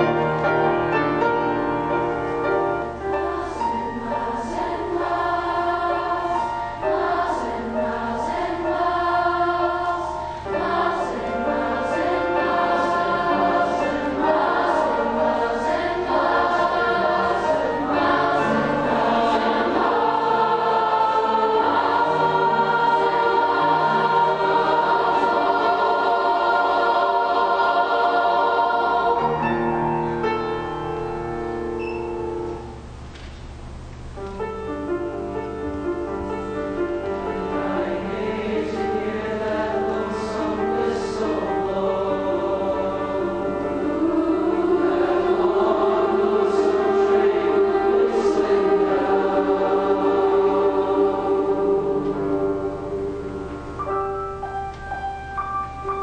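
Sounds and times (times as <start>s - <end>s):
choir singing held chords: 0.0s - 32.9s, 34.7s - 56.0s
piano accompaniment: 0.0s - 33.1s, 33.8s - 56.0s.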